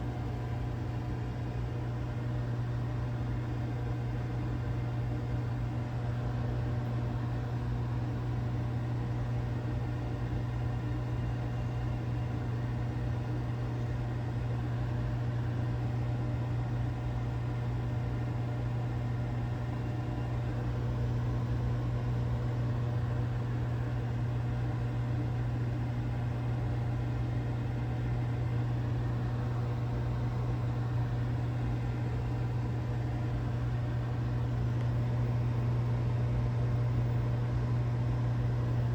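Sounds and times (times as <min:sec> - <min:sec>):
microwave oven humming: 0:00.0 - 0:38.9.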